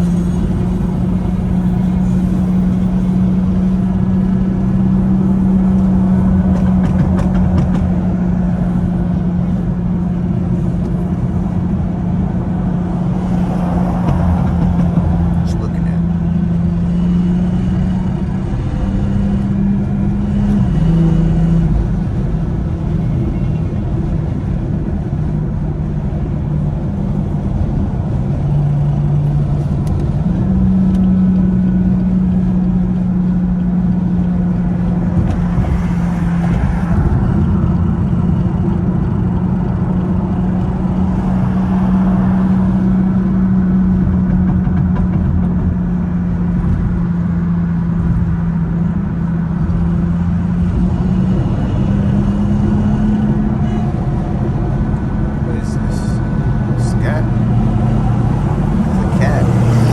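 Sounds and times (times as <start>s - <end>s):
car engine droning at cruise: 0.0s - 59.9s
road rumble: 0.0s - 59.9s.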